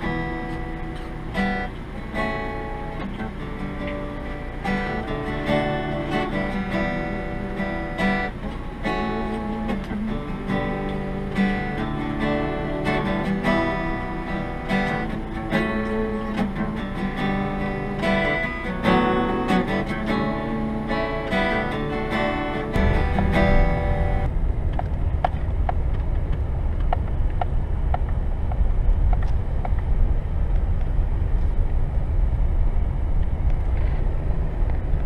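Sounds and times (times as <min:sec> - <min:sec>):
acoustic guitar playing: 0:00.0 - 0:30.2.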